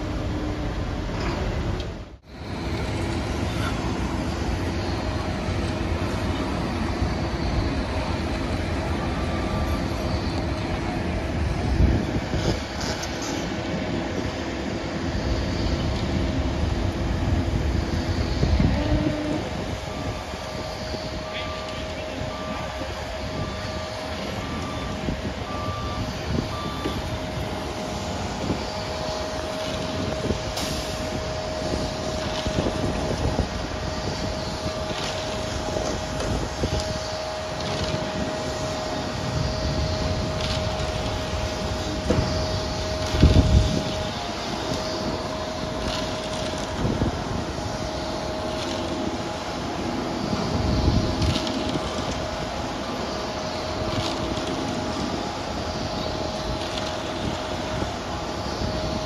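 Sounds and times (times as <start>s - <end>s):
heavy machinery whining: 0.0s - 59.0s
reversing alarm beeping: 2.2s - 59.0s.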